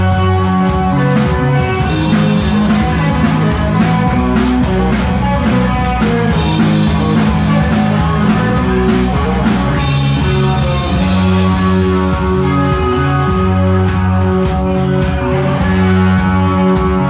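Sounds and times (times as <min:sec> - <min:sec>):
electric guitar: 0:00.0 - 0:17.0
rock band playing: 0:00.0 - 0:17.0.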